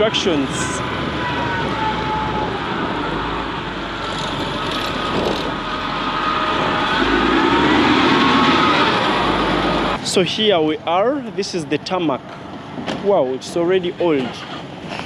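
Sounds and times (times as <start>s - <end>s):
vehicle engines passing: 0.0s - 15.0s.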